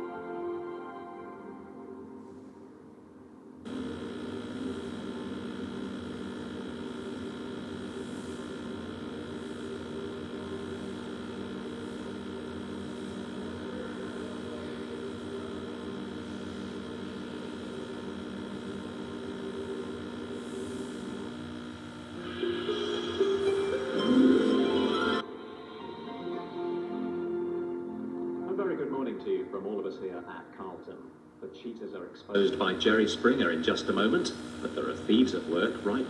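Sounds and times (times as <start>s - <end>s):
steady hum with held tones: 0.0s - 36.0s.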